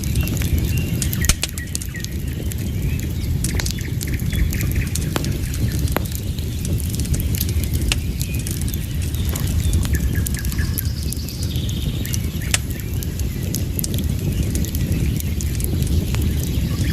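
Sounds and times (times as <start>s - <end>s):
low fire rumble: 0.0s - 16.9s
wood fire crackling: 0.0s - 16.9s.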